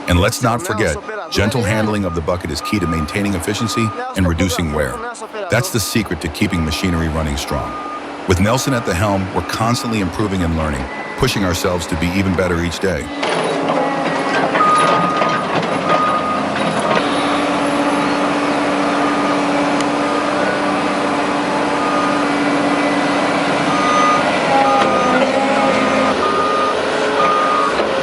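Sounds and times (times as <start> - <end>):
heavy machinery engine running: 0.0 - 28.0
reversing alarm beeping: 0.0 - 28.0.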